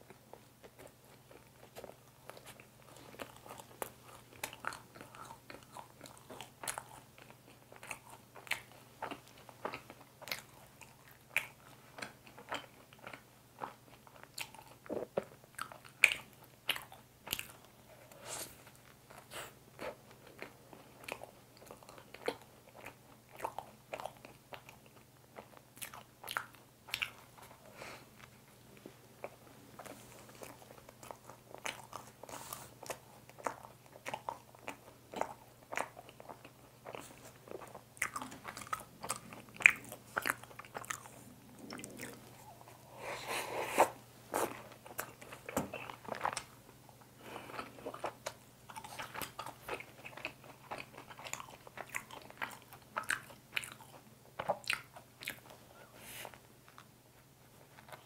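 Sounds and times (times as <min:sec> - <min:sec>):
close-miked biting and chewing: 0:00.0 - 0:28.4, 0:29.2 - 0:42.9, 0:43.5 - 0:55.6, 0:56.3 - 0:58.0
faint low hum: 0:00.0 - 0:58.0.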